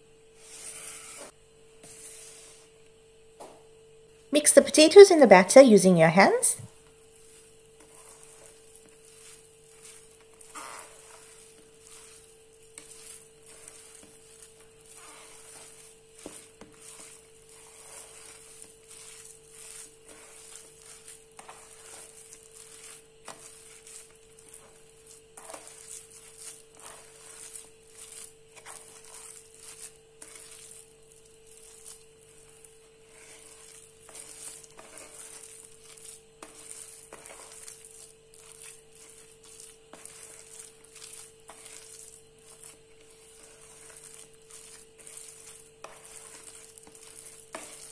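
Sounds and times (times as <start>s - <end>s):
hand squelching in batter: 6.7s - 47.9s.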